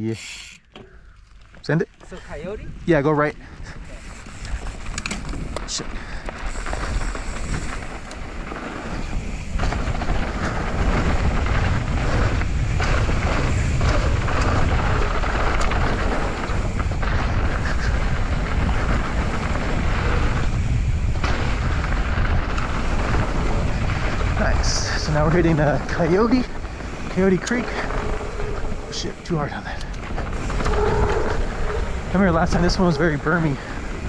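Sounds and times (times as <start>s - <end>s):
bike tyre and frame rattle: 0.0s - 34.0s
wind buffeting microphone: 2.1s - 34.0s.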